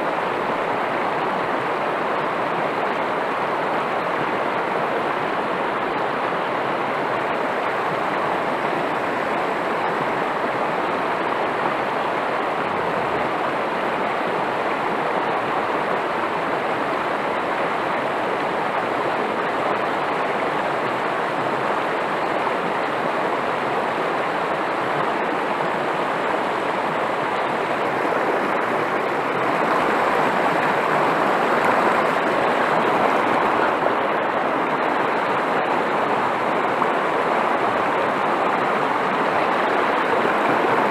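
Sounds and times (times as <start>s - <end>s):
river rapids rushing: 0.0s - 40.9s.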